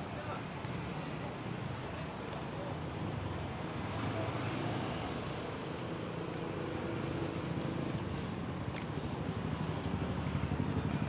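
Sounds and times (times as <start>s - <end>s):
rumble of passing cars: 0.0s - 11.0s.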